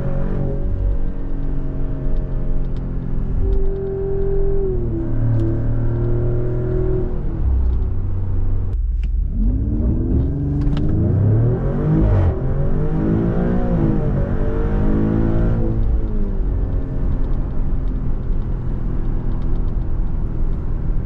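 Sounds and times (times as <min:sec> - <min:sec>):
car engine revving under load: 0:00.0 - 0:21.0.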